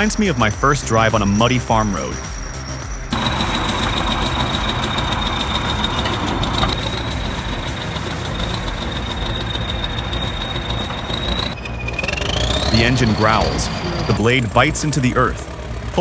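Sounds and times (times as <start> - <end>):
bulldozer diesel engine running: 0.0 - 16.0
high-pitched whine: 0.0 - 16.0.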